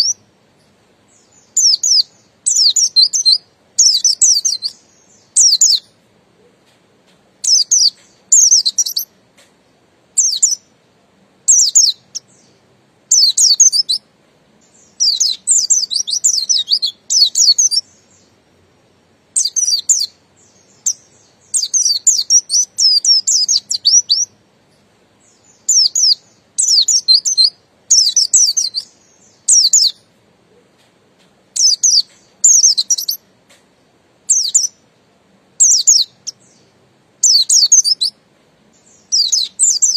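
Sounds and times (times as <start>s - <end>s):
bird high twittering song: 0.0s - 6.7s, 7.4s - 10.8s, 11.4s - 30.8s, 31.5s - 35.0s, 35.6s - 39.9s.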